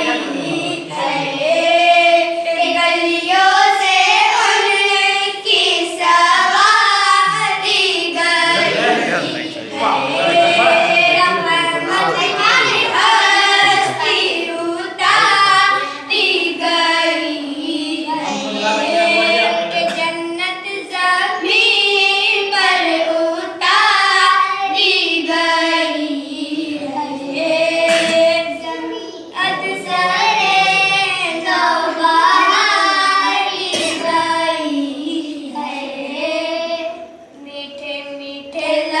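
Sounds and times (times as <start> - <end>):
children singing devotional song: 0.0 - 39.0.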